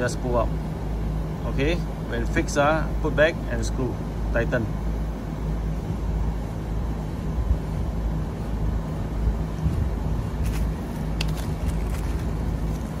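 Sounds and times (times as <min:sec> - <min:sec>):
low machinery drone: 0:00.0 - 0:13.0.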